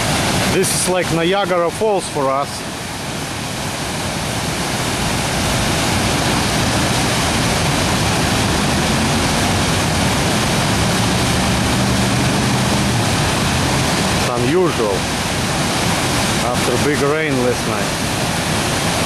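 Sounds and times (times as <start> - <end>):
rush of falling water: 0.0 - 19.0.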